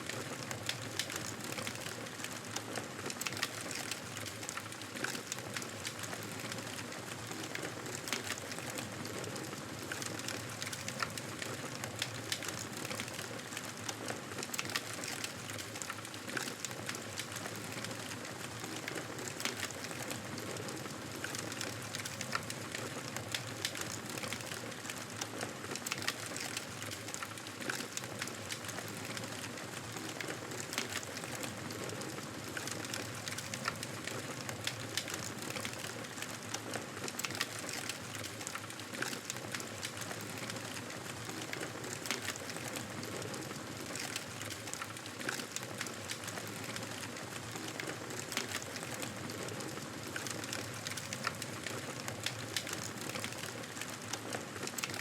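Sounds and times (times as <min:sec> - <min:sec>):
fire crackling and popping: 0:00.1 - 0:55.0.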